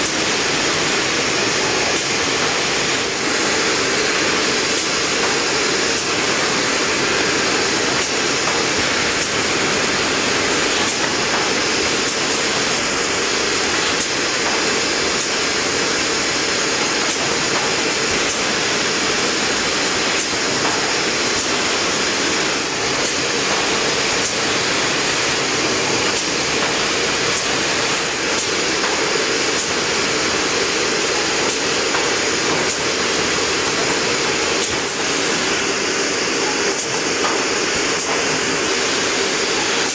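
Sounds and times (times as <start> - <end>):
machine whirring and hissing: 0.0 - 39.9.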